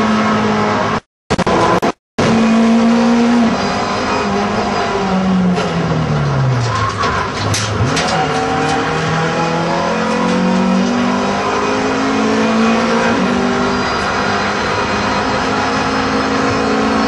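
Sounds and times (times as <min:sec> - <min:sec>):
race car engine accelerating: 0:00.0 - 0:06.2, 0:07.6 - 0:17.0.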